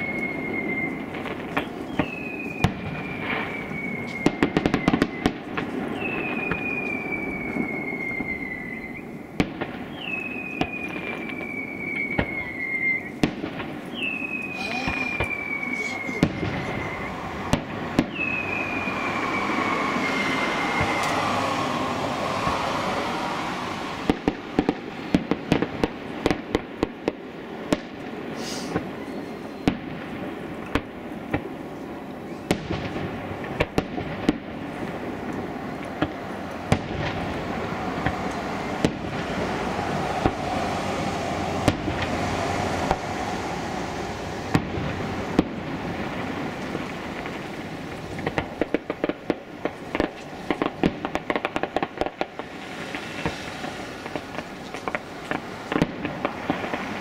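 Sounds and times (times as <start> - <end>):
falling firework whistle: 0.0 - 26.9, 27.7 - 31.5, 32.3 - 57.0
firework shells bursting: 0.0 - 28.9, 32.5 - 57.0.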